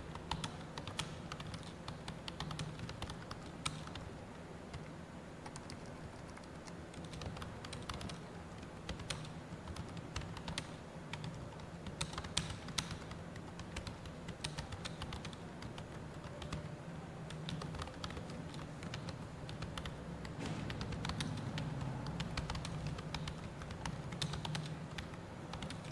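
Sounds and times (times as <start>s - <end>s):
low background hum: 0.0s - 25.9s
keyboard typing clicks: 0.1s - 4.1s, 4.7s - 16.7s, 17.3s - 25.9s.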